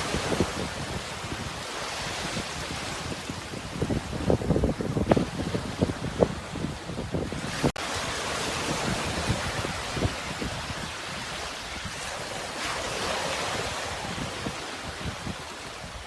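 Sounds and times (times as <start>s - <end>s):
sea surf washing: 0.0s - 16.0s
wind buffeting microphone: 0.0s - 16.0s.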